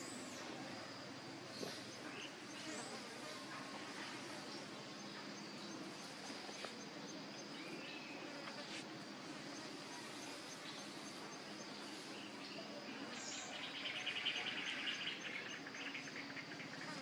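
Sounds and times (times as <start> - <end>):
background hiss: 0.0 - 17.0
high insect drone: 0.0 - 17.0.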